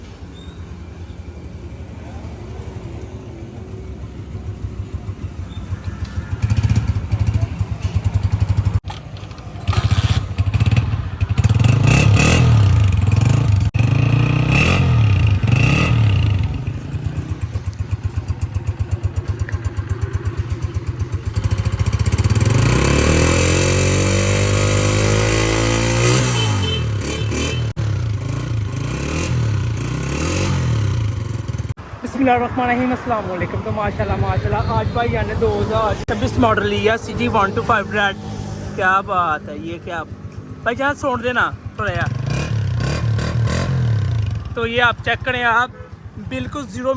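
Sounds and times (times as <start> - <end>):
motorcycle engine revving: 0.9 - 46.9.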